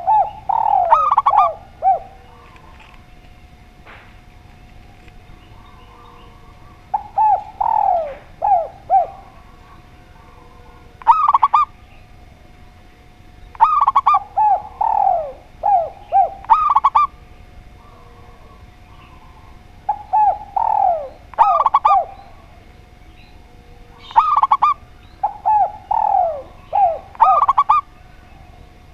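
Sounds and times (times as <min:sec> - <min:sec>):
doves cooing: 0:00.0 - 0:28.9
faint steady tone: 0:00.0 - 0:28.9.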